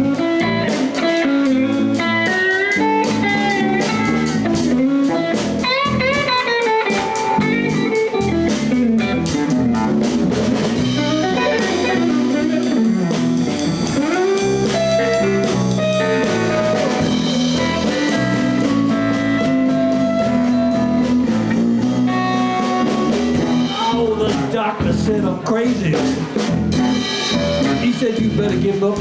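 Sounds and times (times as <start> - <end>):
bass: 0.0 - 29.0
blues guitar lead with bends: 0.0 - 29.0
drum kit: 0.0 - 29.0.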